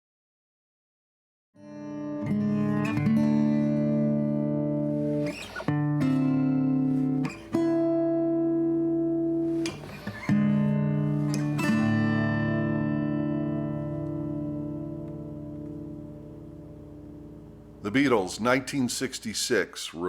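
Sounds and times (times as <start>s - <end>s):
guitar chords: 1.6s - 19.6s.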